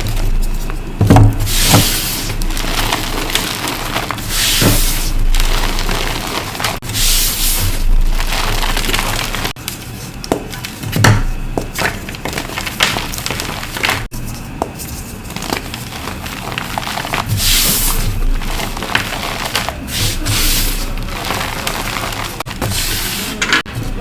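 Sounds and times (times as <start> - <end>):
chalk crunching and crumbling: 0.0 - 10.9, 11.6 - 23.5.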